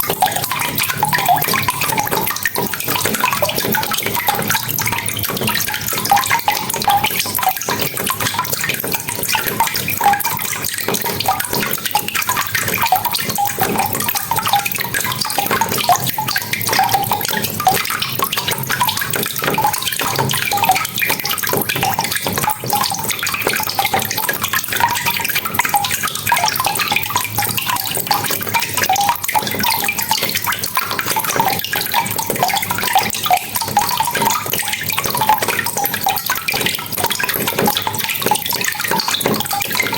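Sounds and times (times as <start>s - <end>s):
close drips and splashes: 0.0s - 39.9s.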